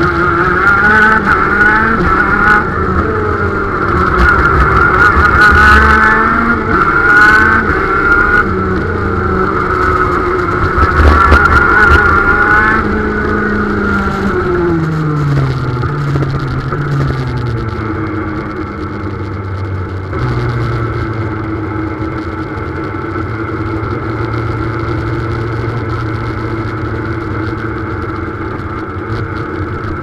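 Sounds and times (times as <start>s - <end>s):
kart engine revving: 0.0s - 30.0s.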